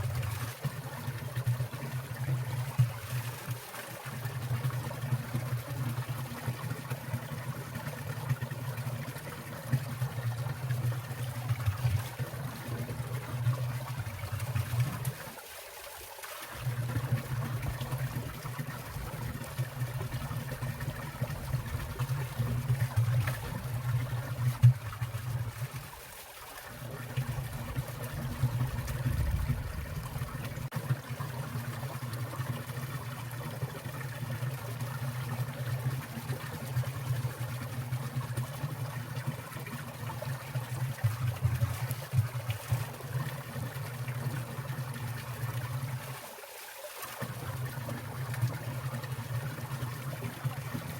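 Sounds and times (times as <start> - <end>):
stream trickling and splashing: 0.0 - 50.9.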